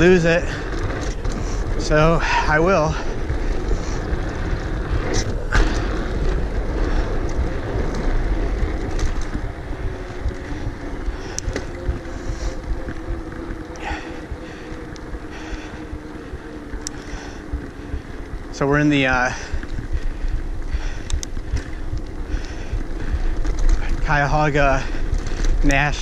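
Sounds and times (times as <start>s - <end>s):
bike clicks and rattles: 0.0s - 26.0s
rolling tyre noise: 0.0s - 26.0s
wind buffeting microphone: 0.0s - 26.0s.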